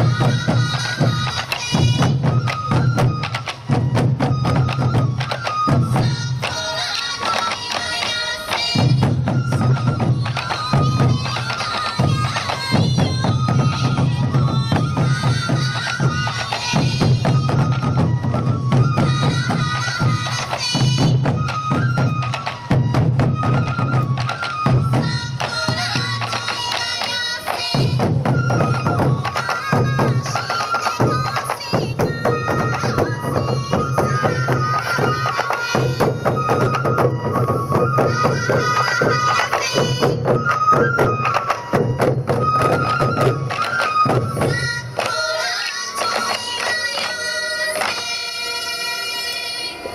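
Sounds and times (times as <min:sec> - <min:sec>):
taiko drums beaten in rhythm: 0:00.0 - 0:48.1
bamboo flutes playing high melody: 0:00.0 - 0:49.9.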